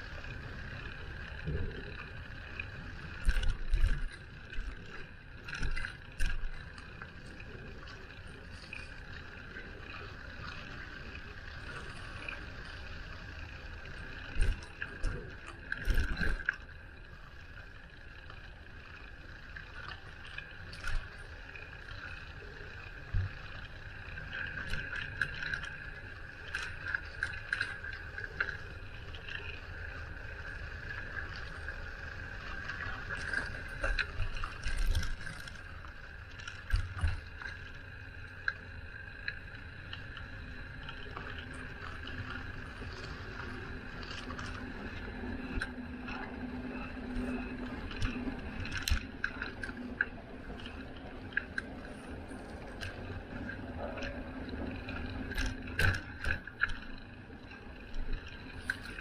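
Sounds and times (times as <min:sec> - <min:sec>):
bicycle tyre and drivetrain hum: 0:00.0 - 0:59.0
low steady drone: 0:00.0 - 0:59.0.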